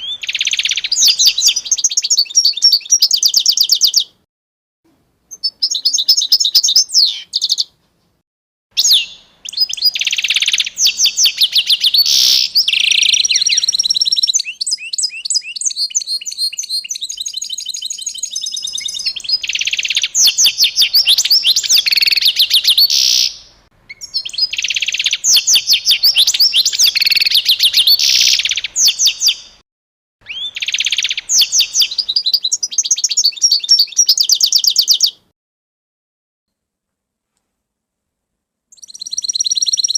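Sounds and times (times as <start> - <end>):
songbird chirping and trilling: 0.0 - 4.3, 5.3 - 7.8, 8.8 - 29.6, 30.2 - 35.3, 38.7 - 39.9.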